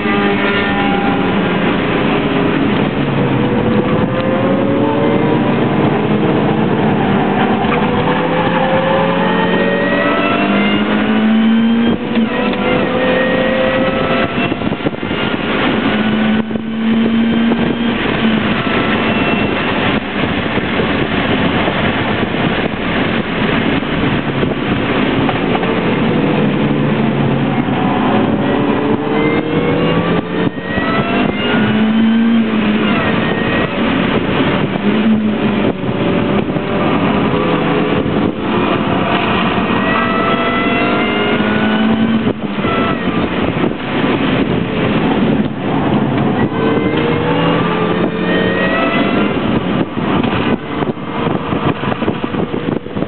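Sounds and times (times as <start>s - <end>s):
car engine revving: 0.0s - 53.0s
wind and road noise: 0.0s - 53.0s.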